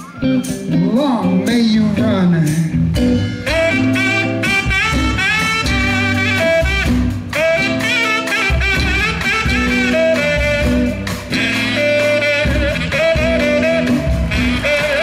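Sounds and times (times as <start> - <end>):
bass: 0.0 - 15.0
drums: 0.0 - 15.0
guitar: 0.0 - 15.0
wavering lead melody: 0.0 - 15.0.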